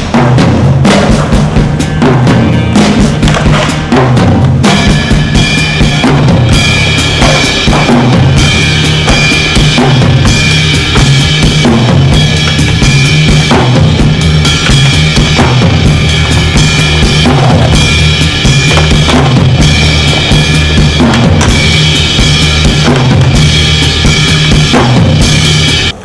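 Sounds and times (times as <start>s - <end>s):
soundtrack music with drum beat: 0.0s - 26.0s.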